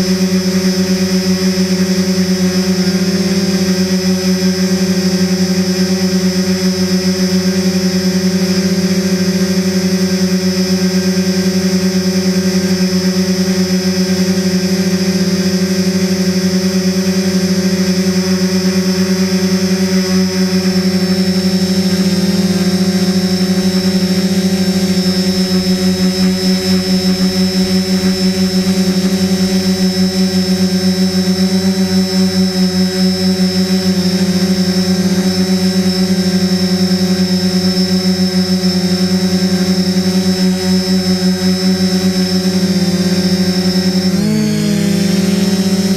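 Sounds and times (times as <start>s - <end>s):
drone buzzing hum: 0.0s - 45.9s.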